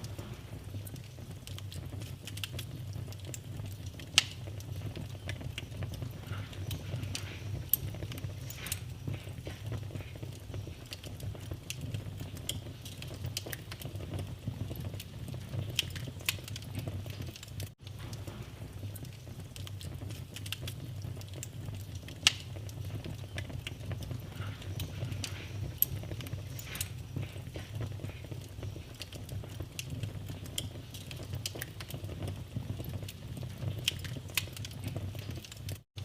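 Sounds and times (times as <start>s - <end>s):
fire crackling in a fireplace: 0.0s - 36.0s.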